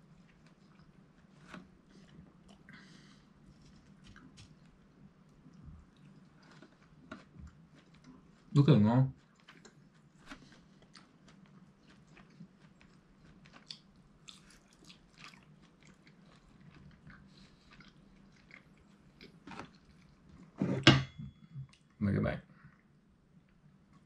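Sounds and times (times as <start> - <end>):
person chewing: 0.2 - 8.5, 9.2 - 20.6.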